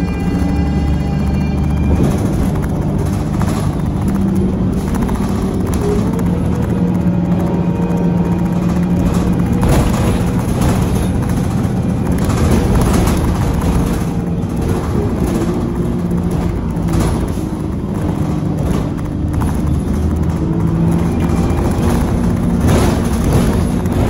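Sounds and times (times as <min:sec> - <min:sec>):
bus diesel engine running: 0:00.0 - 0:24.0
tyre noise on wet road: 0:00.0 - 0:24.0
whining tones: 0:00.0 - 0:24.0.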